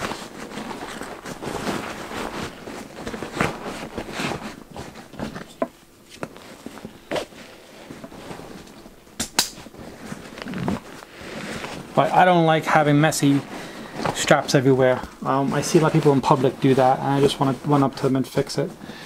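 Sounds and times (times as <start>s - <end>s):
strap and fabric rustling: 0.0s - 19.0s.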